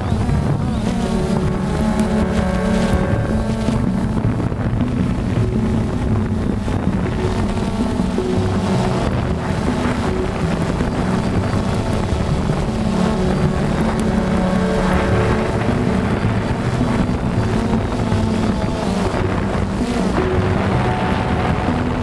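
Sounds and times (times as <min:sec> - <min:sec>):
drone motors and propellers: 0:00.0 - 0:22.0
wind rushing over microphone: 0:00.0 - 0:22.0.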